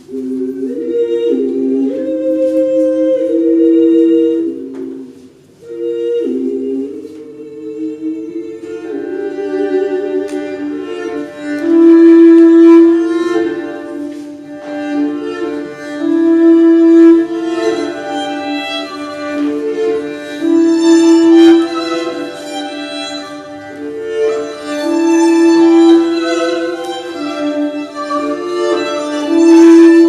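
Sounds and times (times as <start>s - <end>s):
bowed strings slow melody: 0.0s - 30.0s.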